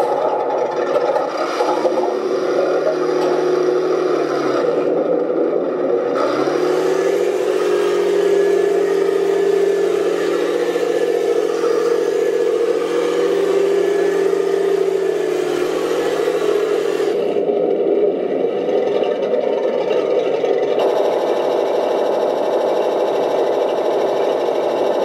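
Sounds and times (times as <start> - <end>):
gearboxes whirring and tracks clattering: 0.0 - 25.0
toy tank engine sound: 0.0 - 25.0.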